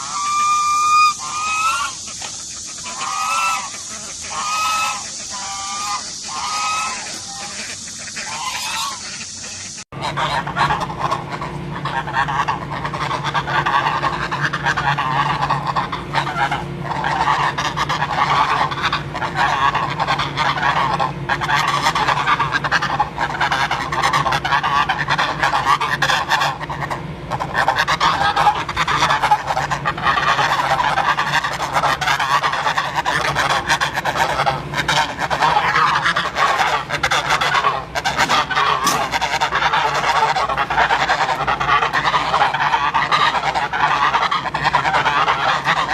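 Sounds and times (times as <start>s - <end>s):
geese honking: 0.0s - 45.9s.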